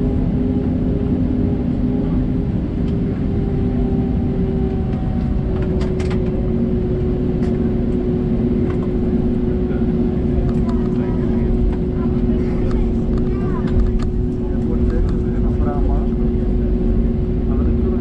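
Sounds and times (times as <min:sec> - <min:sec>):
airliner cabin engine roar: 0:00.0 - 0:18.0.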